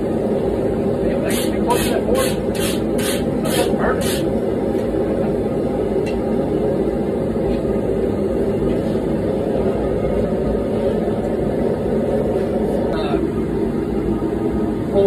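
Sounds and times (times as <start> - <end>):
gas forge burner rushing: 0.0 - 15.0.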